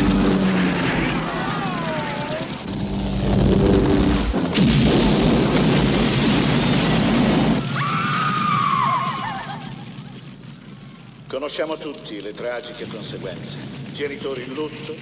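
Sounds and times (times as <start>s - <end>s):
explosion blast: 2.7s - 15.0s.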